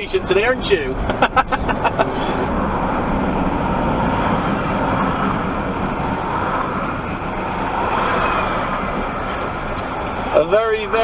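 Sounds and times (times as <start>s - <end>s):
lorry engine and road noise: 0.0s - 11.0s.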